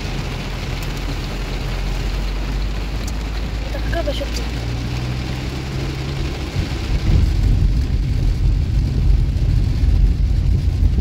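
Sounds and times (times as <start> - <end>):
heavy rain on car windshield: 0.0 - 11.0
low rumble of car: 0.0 - 11.0.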